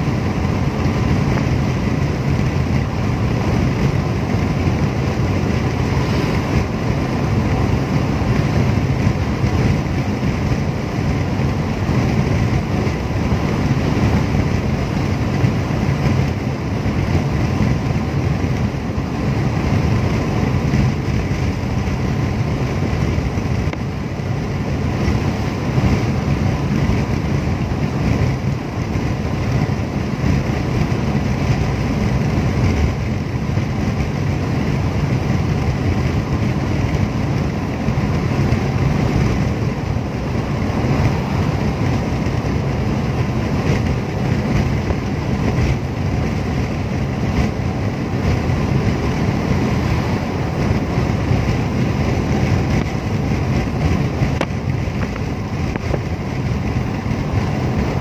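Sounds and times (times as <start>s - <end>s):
tyre and engine rumble: 0.0s - 58.0s
wind noise: 0.0s - 58.0s.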